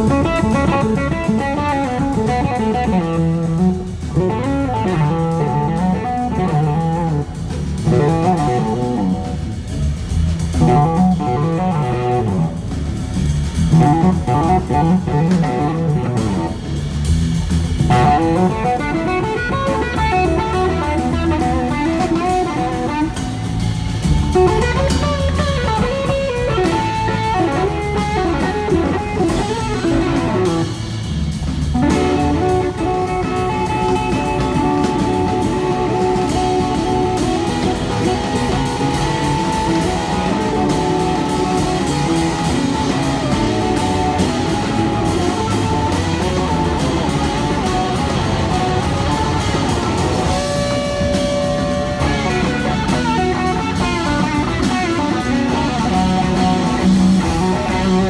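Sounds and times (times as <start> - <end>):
drums: 0.0 - 58.0
electric guitar: 0.0 - 58.0.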